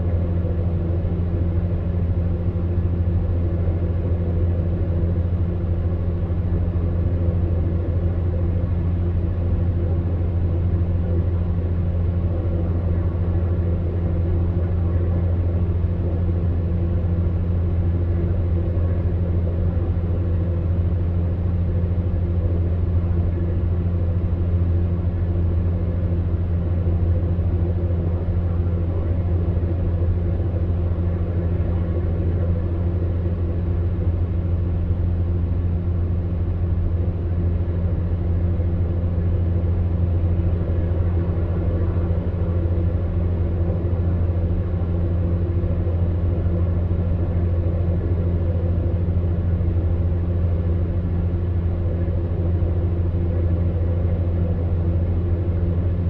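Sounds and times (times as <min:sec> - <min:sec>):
fan heater humming: 0:00.0 - 0:56.0.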